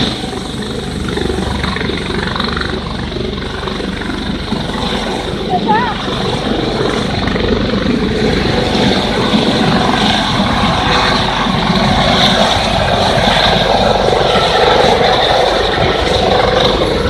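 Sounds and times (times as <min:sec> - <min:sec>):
helicopter engine and rotor chopping: 0:00.0 - 0:17.0.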